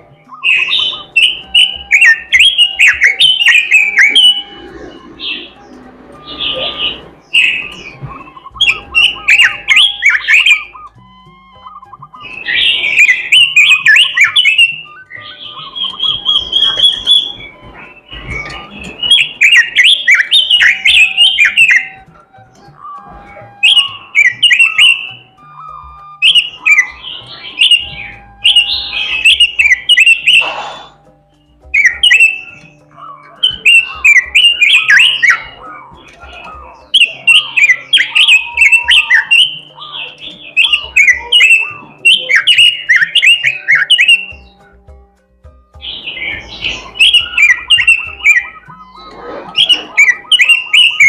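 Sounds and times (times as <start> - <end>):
bird warbling song: 0.0 - 51.0.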